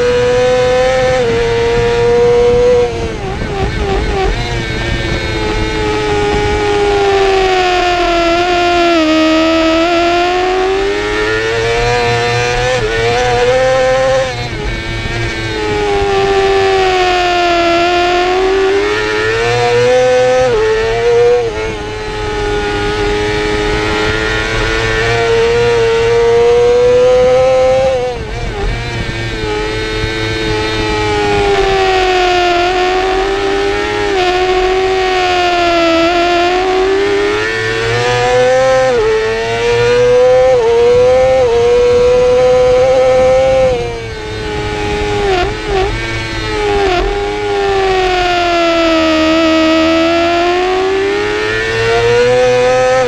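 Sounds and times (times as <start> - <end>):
motorcycle engine at high revs: 0.0 - 53.0
rushing wind: 0.0 - 53.0.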